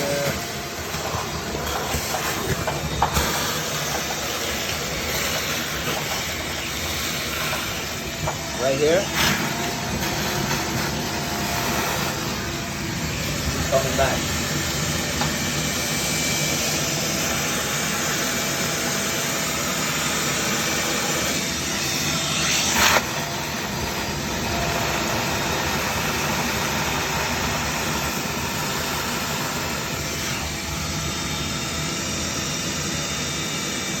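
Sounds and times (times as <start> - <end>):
industrial vacuum running: 0.0 - 34.0.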